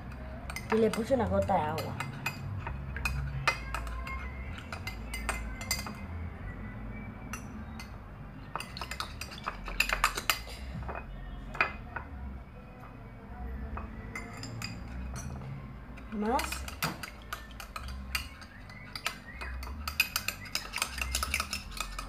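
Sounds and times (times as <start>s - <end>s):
kitchen utensils clinking: 0.0s - 6.1s, 7.3s - 12.1s, 13.8s - 22.0s.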